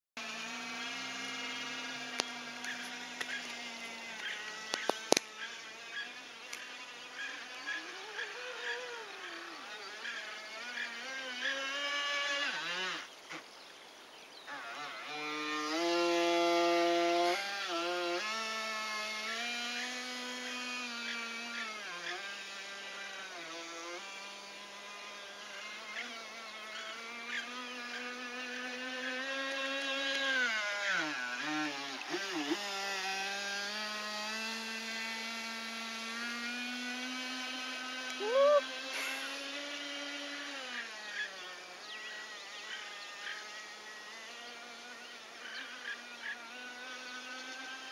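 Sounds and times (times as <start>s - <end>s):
model jet boat motor whine: 0.2s - 47.9s.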